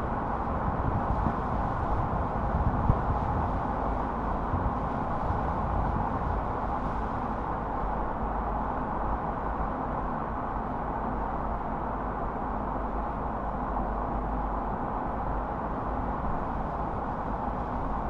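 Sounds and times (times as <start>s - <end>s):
low rumble of tyres and engine: 0.0s - 18.0s.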